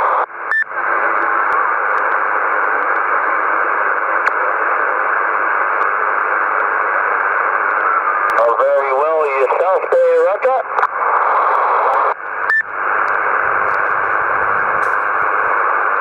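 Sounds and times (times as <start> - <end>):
faint static clicks: 0.0 - 16.0
radio band noise hiss: 0.0 - 16.0.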